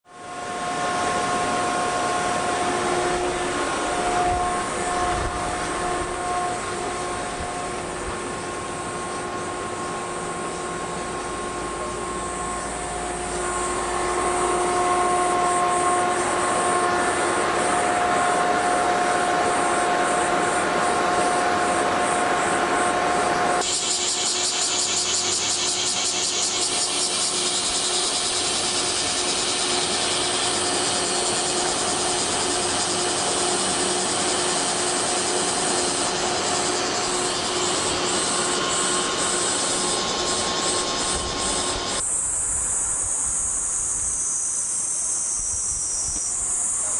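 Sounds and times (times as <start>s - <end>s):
cicadas buzzing: 0.1s - 46.9s
electrical hum: 0.2s - 46.9s.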